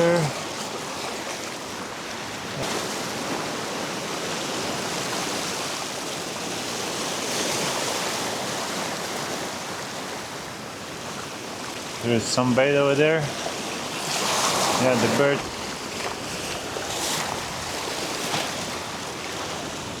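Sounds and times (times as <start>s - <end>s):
waves washing against rocks: 0.0s - 20.0s.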